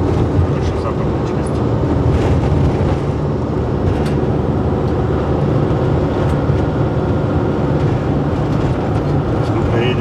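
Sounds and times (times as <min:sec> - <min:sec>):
motorhome engine and road rumble: 0:00.0 - 0:10.0.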